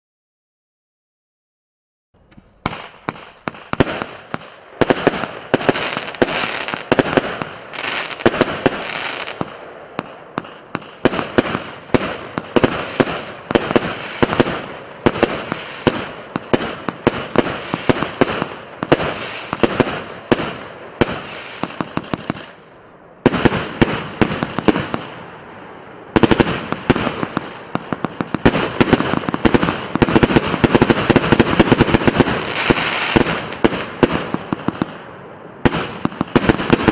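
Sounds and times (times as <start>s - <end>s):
fireworks cake firing: 2.3s - 22.6s, 26.2s - 36.9s.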